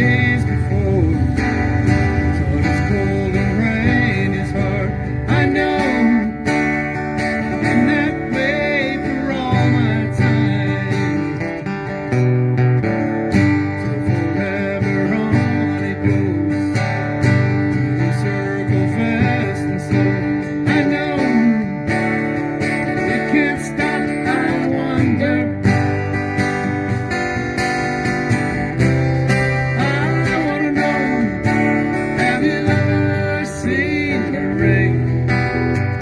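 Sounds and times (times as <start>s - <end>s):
lead guitar line bending pitch: 0.0s - 36.0s
steady bass: 0.0s - 36.0s
strummed acoustic guitar: 0.0s - 36.0s.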